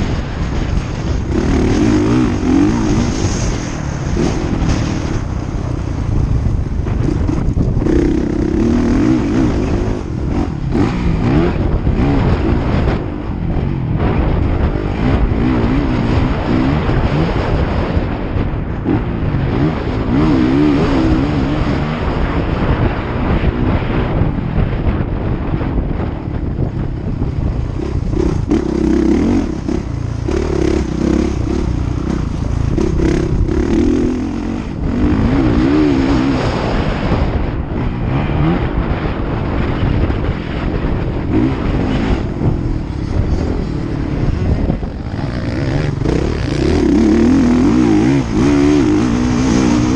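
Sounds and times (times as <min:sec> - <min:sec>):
motorcycle engines revving: 0:00.0 - 0:49.9.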